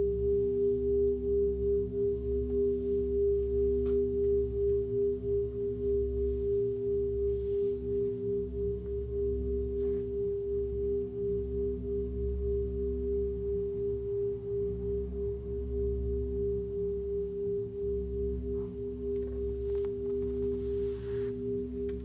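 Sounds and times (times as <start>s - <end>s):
low hum: 0.0s - 22.0s
pulsing pure tone drone: 0.0s - 22.0s.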